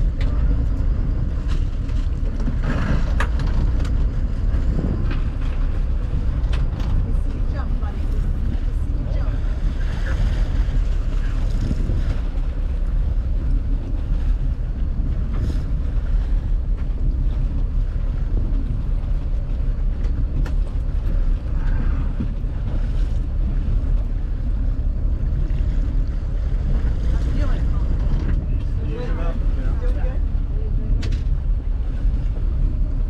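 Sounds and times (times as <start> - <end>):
boat engine rumble: 0.0 - 33.0
water wash: 0.0 - 33.0
wind buffeting microphone: 0.0 - 33.0.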